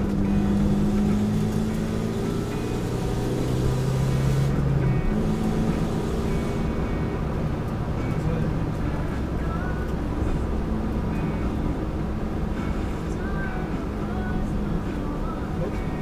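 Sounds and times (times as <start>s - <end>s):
car engine running: 0.0s - 16.0s
tyre and road noise: 0.0s - 16.0s.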